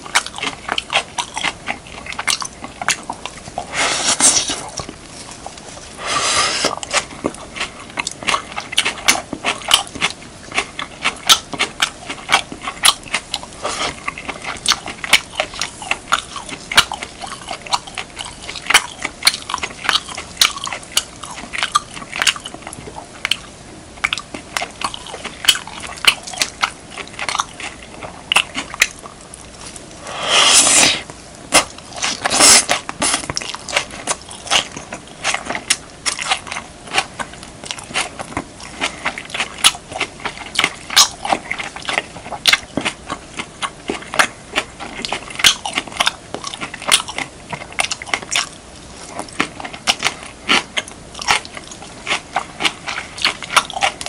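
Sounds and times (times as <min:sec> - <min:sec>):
wet chewing and lip smacks: 0:00.0 - 0:05.7, 0:06.4 - 0:54.0.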